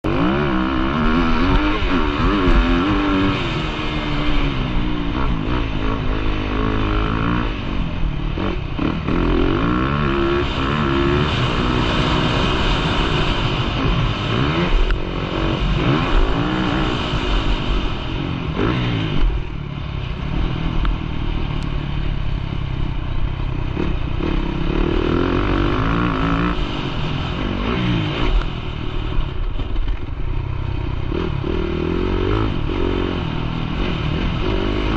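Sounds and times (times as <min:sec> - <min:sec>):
motocross bike engine revving: 0:00.0 - 0:19.6, 0:23.4 - 0:34.9.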